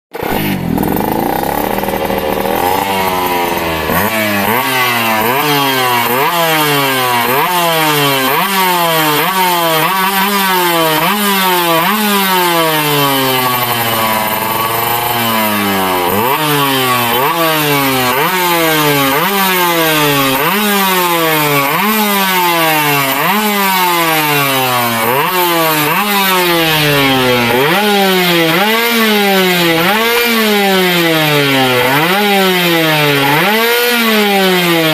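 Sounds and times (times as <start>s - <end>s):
two-stroke engine revving: 0.1s - 34.9s.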